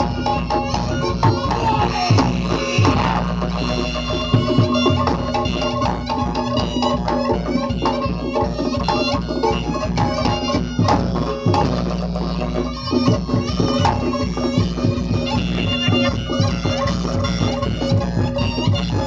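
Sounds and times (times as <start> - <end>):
rapid hand drum strokes: 0.0 - 19.0
shawm playing wailing melody: 0.0 - 19.0.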